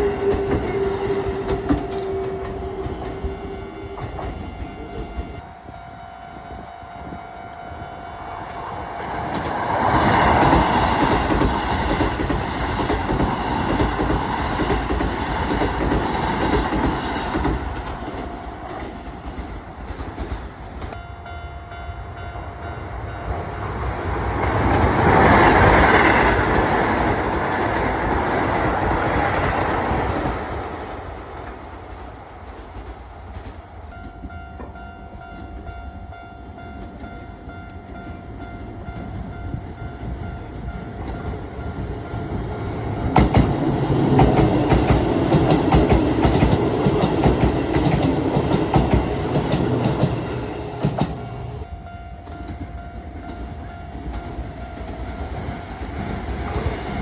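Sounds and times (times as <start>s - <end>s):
electric trains passing: 0.0s - 57.0s.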